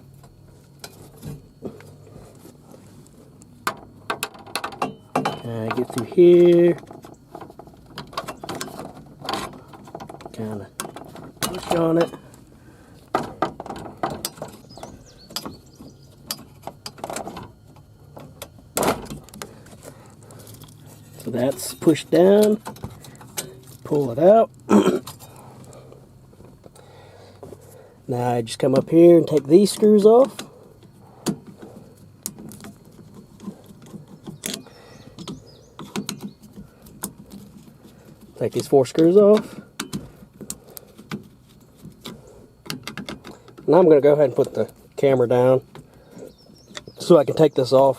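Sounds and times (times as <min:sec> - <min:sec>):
clicks and knocks of parts: 0:03.4 - 0:24.2, 0:28.6 - 0:47.1.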